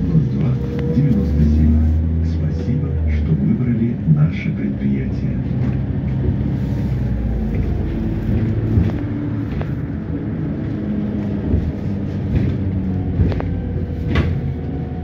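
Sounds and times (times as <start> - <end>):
bus body rattling: 0.0 - 15.0
bus engine and drivetrain hum: 0.0 - 15.0
road noise: 0.0 - 15.0.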